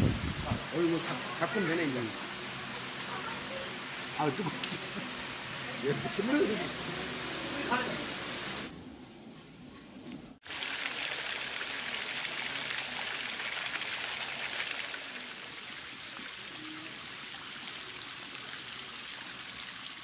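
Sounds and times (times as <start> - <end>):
small waterfall splashing over rock: 0.0 - 6.8, 10.4 - 20.0.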